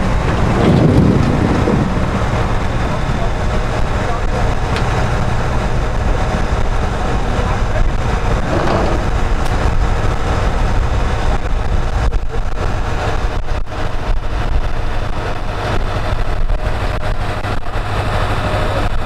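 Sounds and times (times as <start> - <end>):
diesel engines and conveyors droning: 0.0 - 19.0.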